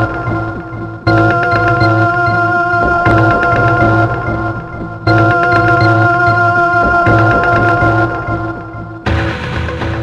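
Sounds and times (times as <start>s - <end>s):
synth-pop music: 0.0s - 9.6s.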